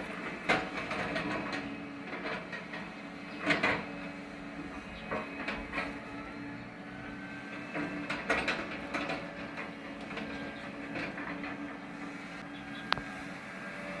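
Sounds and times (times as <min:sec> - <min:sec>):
backhoe engine running: 0:00.0 - 0:14.0.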